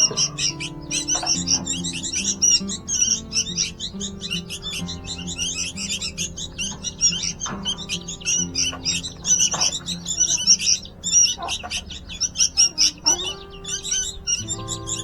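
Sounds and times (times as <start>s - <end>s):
nestlings chirping: 0.0s - 15.0s.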